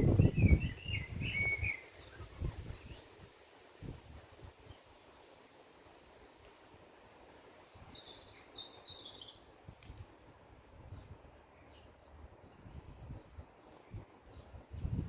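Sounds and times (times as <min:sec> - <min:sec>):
faint outdoor background hiss: 0:00.0 - 0:15.0
songbird singing: 0:00.0 - 0:15.0.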